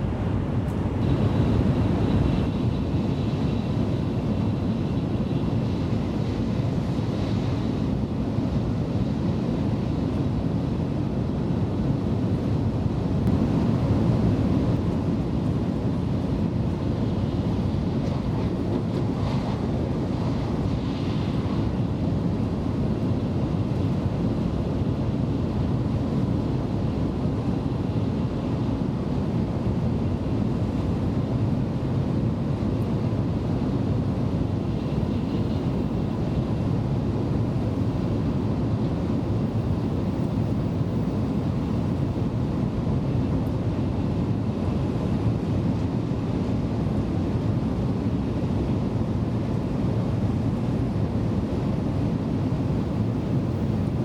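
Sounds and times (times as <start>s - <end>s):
train cabin low rumble: 0.0s - 54.0s.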